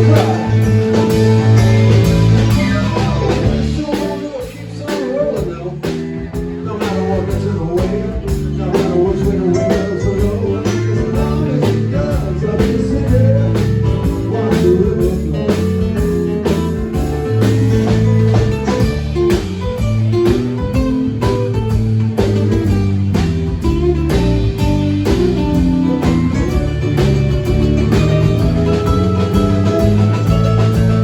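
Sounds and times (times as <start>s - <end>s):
blues-rock band music: 0.0s - 31.0s.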